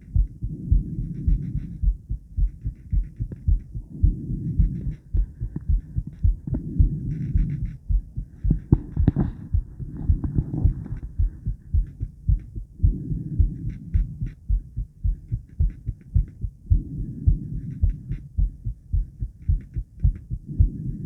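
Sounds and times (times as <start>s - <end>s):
heartbeat thumps: 0.0s - 21.0s.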